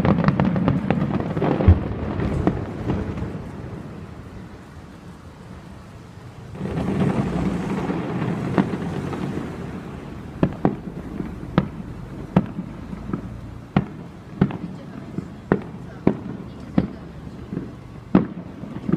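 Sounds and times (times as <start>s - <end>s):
fireworks deep rolling boom: 0.0s - 5.8s, 6.4s - 18.9s
fireworks sharp cracks: 0.0s - 18.9s.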